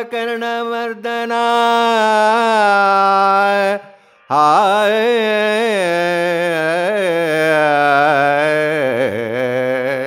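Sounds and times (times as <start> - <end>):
man chanting: 0.0 - 10.0.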